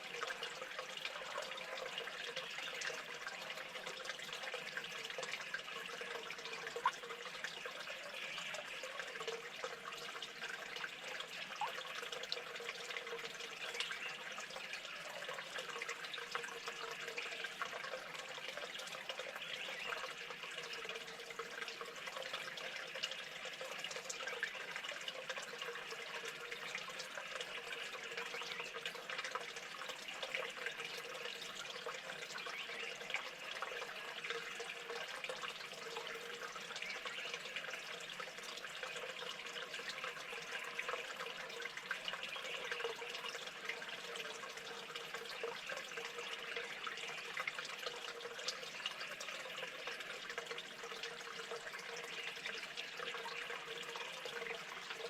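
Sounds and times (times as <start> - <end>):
faint drips and clicks: 0.0 - 55.0
water trickling: 0.0 - 55.0.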